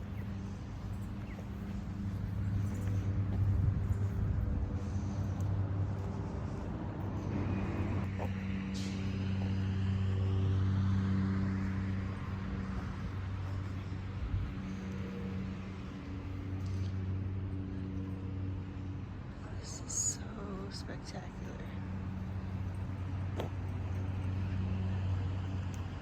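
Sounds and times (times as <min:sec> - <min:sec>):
vehicle engine humming: 0:00.0 - 0:26.0
vehicle passing: 0:00.0 - 0:26.0.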